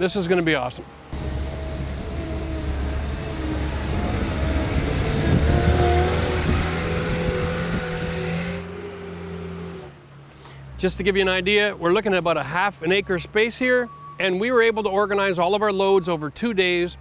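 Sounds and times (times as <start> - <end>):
loader diesel engine rumbling: 0.0 - 17.0.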